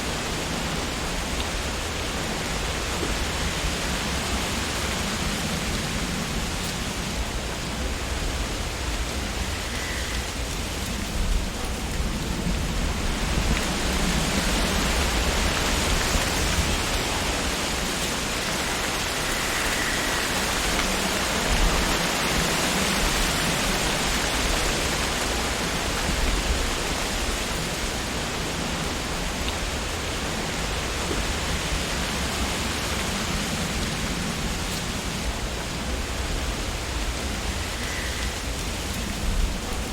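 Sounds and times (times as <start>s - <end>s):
low rumble of wind: 0.0s - 39.9s
wind rustling tree leaves: 0.0s - 39.9s.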